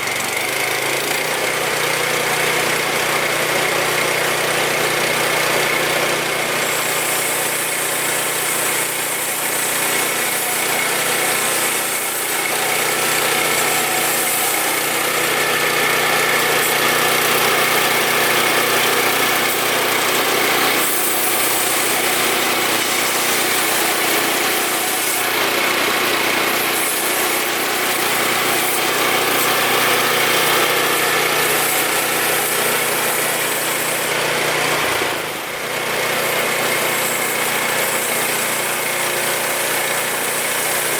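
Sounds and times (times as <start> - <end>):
bandsaw mill running: 0.0 - 40.9.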